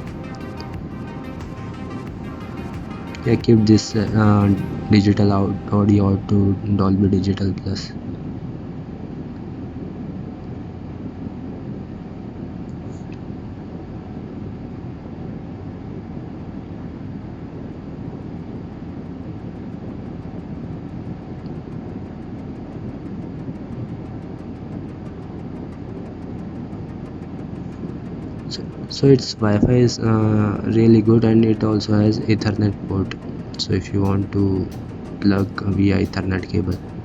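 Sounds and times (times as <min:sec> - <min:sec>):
low rumbling background noise: 0:00.0 - 0:37.0.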